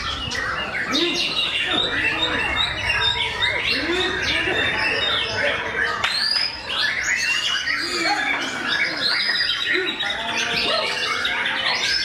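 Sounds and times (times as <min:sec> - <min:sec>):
many birds singing: 0:00.0 - 0:12.0.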